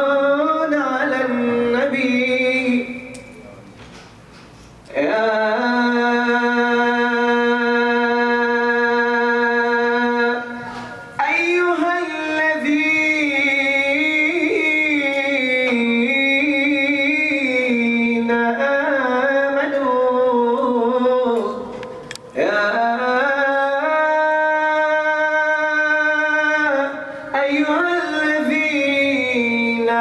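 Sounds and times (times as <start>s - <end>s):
man chanting: 0.0s - 3.7s, 4.9s - 30.0s.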